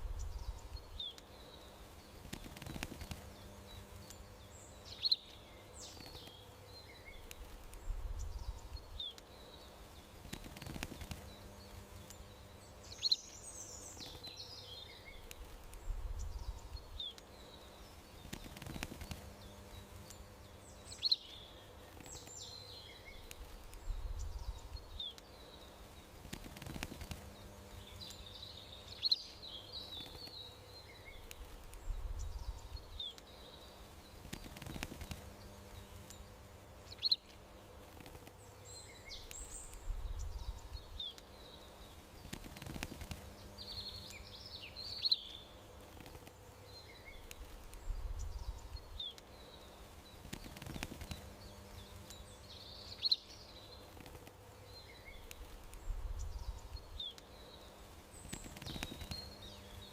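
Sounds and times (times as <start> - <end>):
faint steady hum: 0.0 - 59.9
songbirds chirping and trilling: 0.0 - 59.9.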